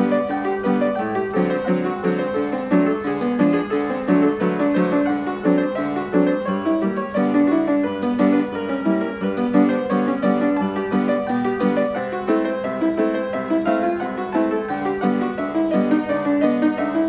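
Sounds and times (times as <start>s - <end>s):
player piano playing a waltz: 0.0s - 17.0s.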